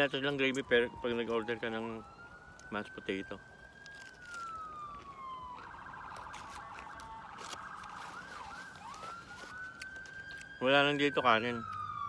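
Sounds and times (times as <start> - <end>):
emergency vehicle siren: 0.0 - 12.0.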